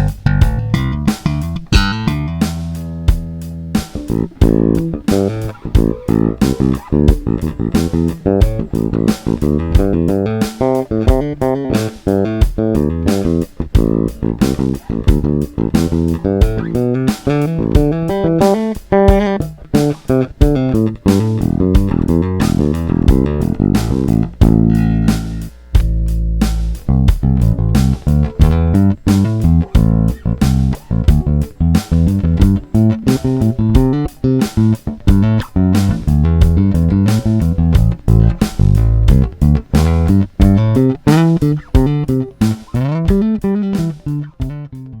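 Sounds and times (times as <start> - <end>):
electric bass plucked notes: 0.0 - 45.0.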